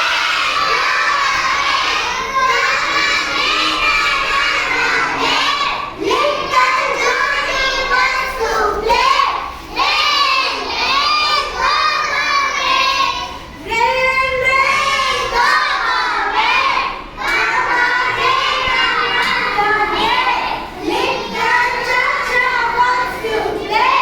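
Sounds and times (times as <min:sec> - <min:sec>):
young children singing: 0:00.0 - 0:24.0.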